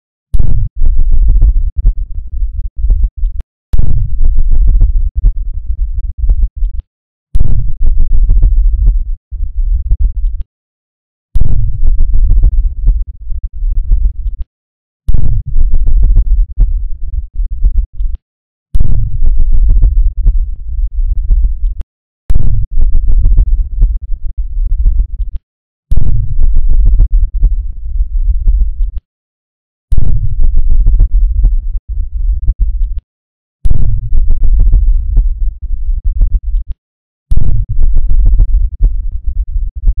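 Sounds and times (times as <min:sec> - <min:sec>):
flickering electronic bass rumble: 0:00.4 - 0:06.8, 0:07.4 - 0:10.5, 0:11.4 - 0:14.5, 0:15.1 - 0:18.2, 0:18.8 - 0:29.0, 0:29.9 - 0:33.0, 0:33.7 - 0:40.0.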